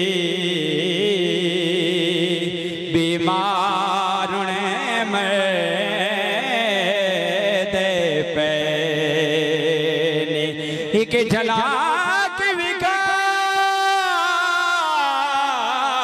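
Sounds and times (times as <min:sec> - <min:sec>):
man singing into microphone: 0:00.0 - 0:16.0.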